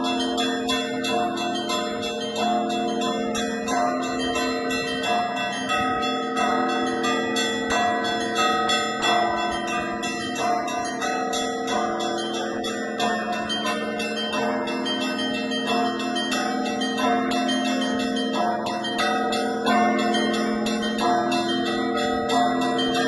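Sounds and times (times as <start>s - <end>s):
large bells ringing: 0.0s - 23.0s
small church bells struck quickly: 0.0s - 23.0s.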